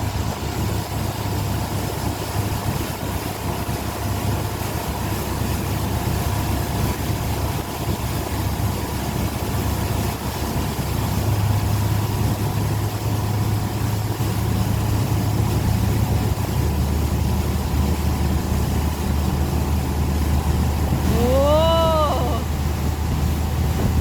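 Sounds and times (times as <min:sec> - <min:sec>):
boat engine running under load: 0:00.0 - 0:24.0
water rushing: 0:00.0 - 0:24.0.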